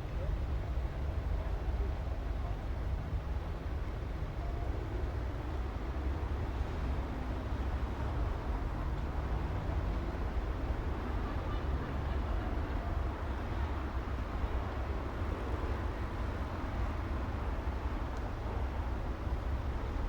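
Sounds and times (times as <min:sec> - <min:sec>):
street traffic rumble: 0:03.4 - 0:20.0.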